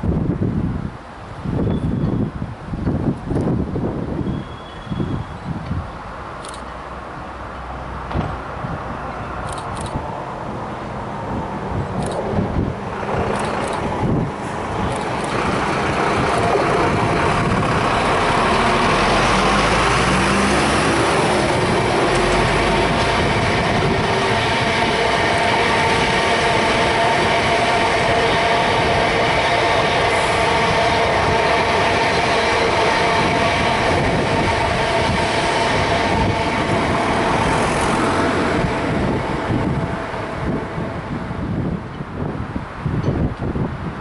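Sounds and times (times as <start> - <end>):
wheels rumbling on rail: 0.0 - 44.0.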